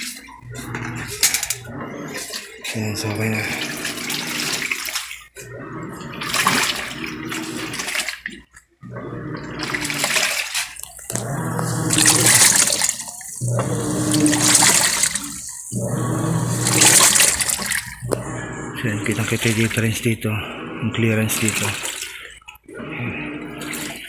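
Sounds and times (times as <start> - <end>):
low motor hum: 0.0 - 24.0
water and laundry sloshing: 0.0 - 24.0.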